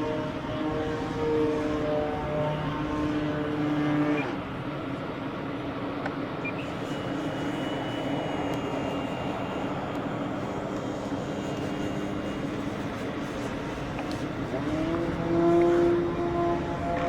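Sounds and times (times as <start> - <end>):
electric model plane motor: 0.0 - 4.4, 6.6 - 17.0.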